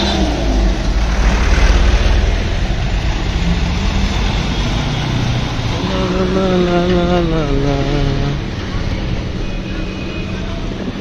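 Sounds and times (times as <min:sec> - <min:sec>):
street traffic roar: 0:00.0 - 0:11.0.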